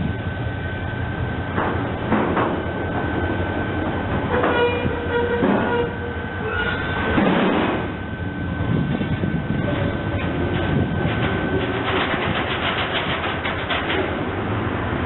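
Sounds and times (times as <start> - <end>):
train wheels clattering on track: 1.4 - 8.0, 8.8 - 14.7.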